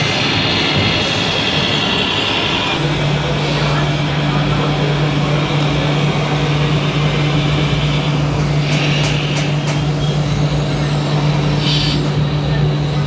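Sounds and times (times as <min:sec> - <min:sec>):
background voices in a hall: 0:00.0 - 0:13.0
steady low drone: 0:02.4 - 0:13.0.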